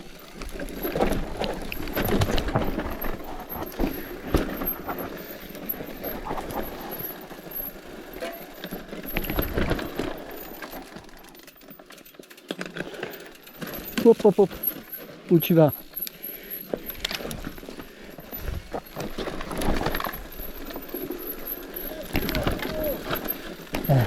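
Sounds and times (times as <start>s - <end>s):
bicycle rattling over rough ground: 0.0s - 24.0s.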